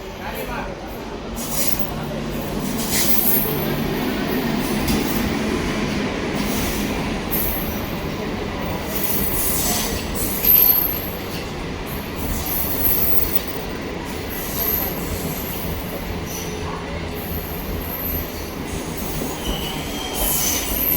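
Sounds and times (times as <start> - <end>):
train rumble: 0.0 - 20.9
wheels squealing on rails: 0.0 - 20.9.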